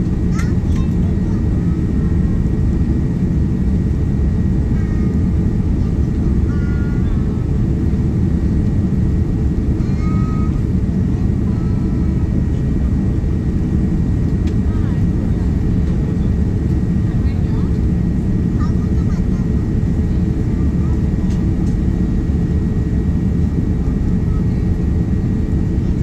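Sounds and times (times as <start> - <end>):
airplane cabin engine roar: 0.0 - 26.0.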